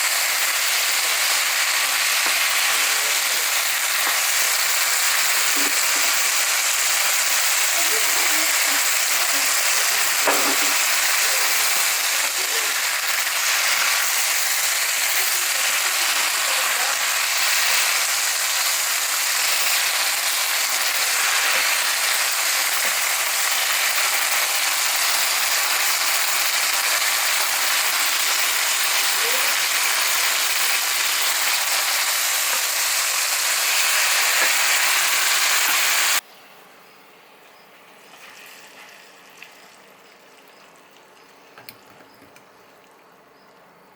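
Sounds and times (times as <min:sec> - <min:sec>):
food sizzling in a hot pan: 0:00.0 - 0:36.2, 0:37.8 - 0:41.5.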